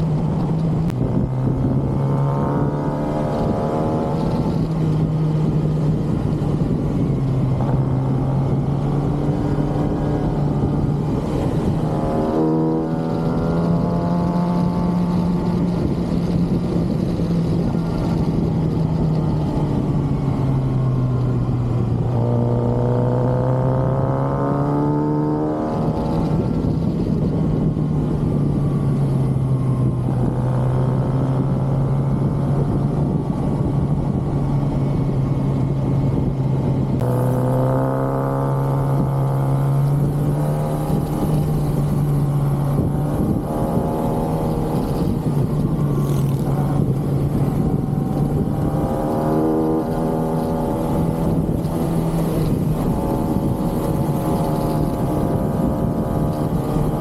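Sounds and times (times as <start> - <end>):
motorcycle engine revving: 0.0 - 28.0, 36.1 - 57.0
wind rush: 0.0 - 57.0.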